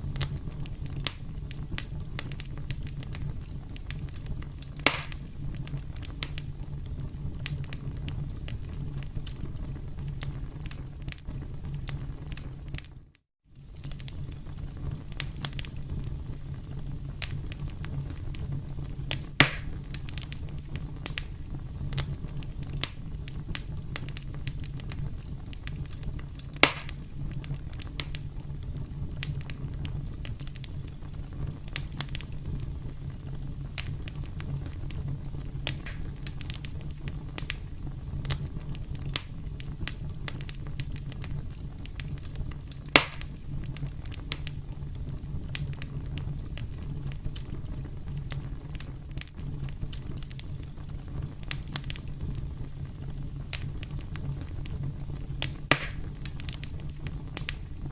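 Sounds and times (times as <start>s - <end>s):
campfire crackling: 0.0s - 57.9s
loud fire pops: 0.0s - 57.9s.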